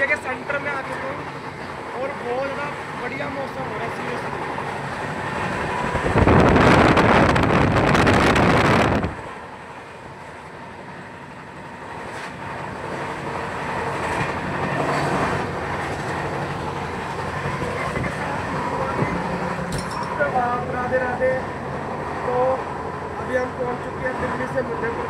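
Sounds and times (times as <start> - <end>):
loud rush of train noise: 0.0 - 25.0
train running noise: 0.0 - 25.0.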